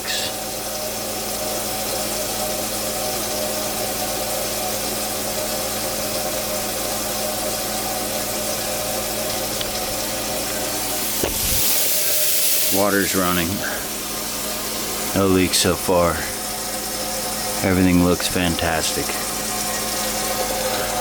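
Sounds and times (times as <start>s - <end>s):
tap water running into sink: 0.1s - 21.0s.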